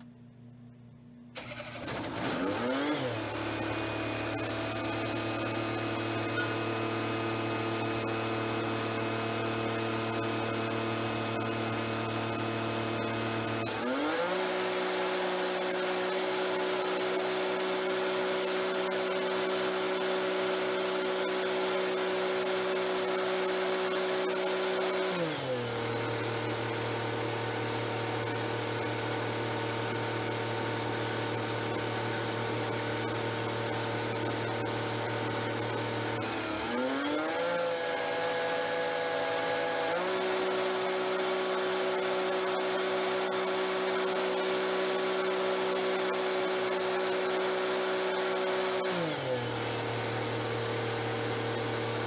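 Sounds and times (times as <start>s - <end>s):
generator engine running: 1.4s - 52.0s.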